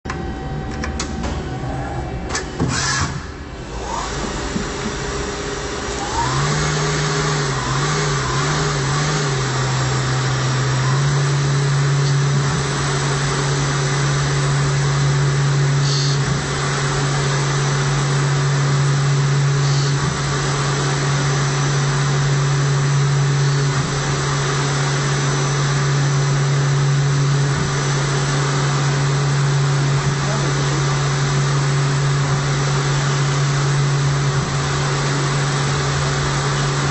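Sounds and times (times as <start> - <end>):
machine motor hum: 0.1 - 36.9.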